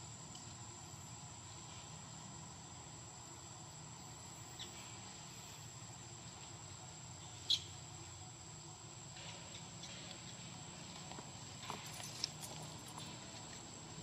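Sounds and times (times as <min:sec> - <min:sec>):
faint low hum: 0:00.0 - 0:14.0
insects droning: 0:00.0 - 0:14.0.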